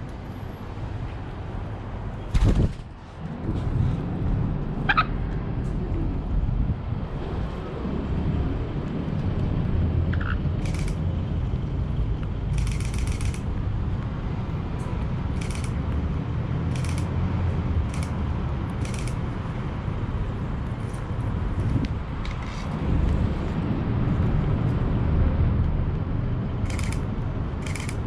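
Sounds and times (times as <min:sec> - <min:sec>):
steady low rumble: 0:01.4 - 0:28.0.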